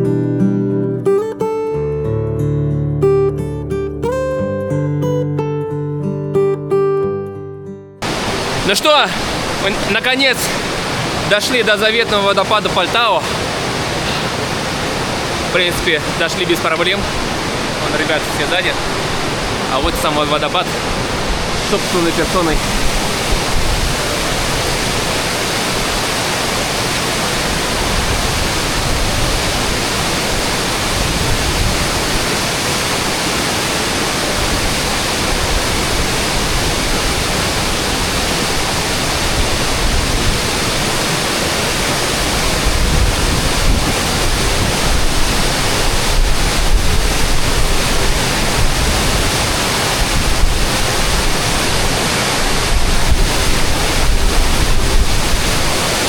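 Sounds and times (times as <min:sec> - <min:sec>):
waterfall rushing: 0:08.0 - 0:56.0.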